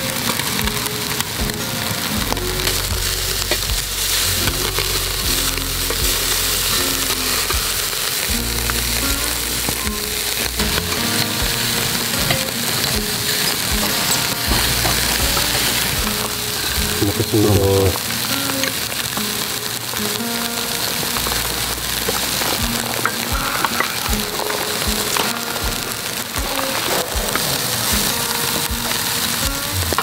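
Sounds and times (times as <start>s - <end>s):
fat popping and crackling: 0.0s - 30.0s
meat sizzling on grill: 0.0s - 30.0s.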